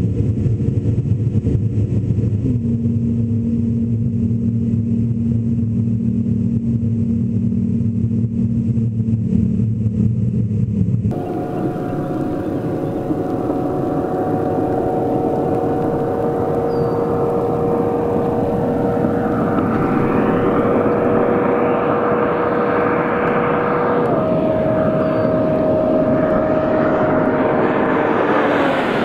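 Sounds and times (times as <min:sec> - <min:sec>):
car engine at full throttle: 0:00.0 - 0:29.0
rushing noise: 0:00.2 - 0:29.0.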